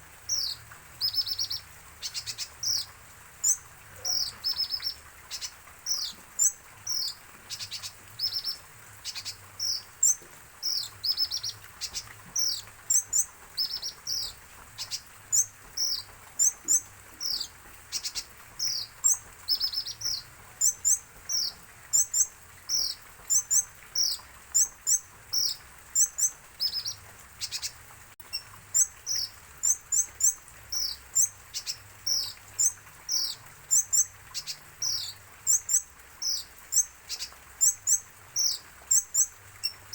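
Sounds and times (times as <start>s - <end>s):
sunbird chirping: 0.3s - 27.7s, 28.3s - 39.9s.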